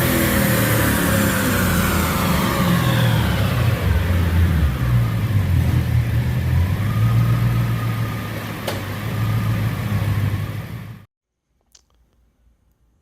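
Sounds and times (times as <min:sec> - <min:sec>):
supercharged engine running: 0:00.0 - 0:11.1
supercharger whine: 0:00.0 - 0:11.1.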